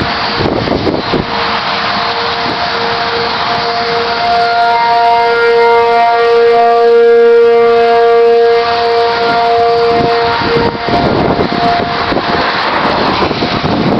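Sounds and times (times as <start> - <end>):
wind buffeting microphone: 0.0 - 13.9
warning siren multi-note tone: 1.0 - 13.3.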